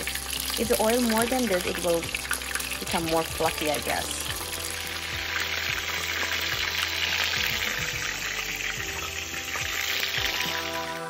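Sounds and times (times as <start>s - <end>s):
background music: 0.0s - 11.0s
fish deep-frying in hot oil: 0.0s - 11.0s.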